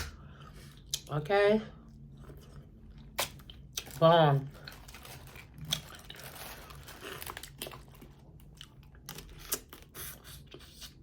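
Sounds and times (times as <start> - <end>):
chewing and crunching food: 1.8 - 11.0.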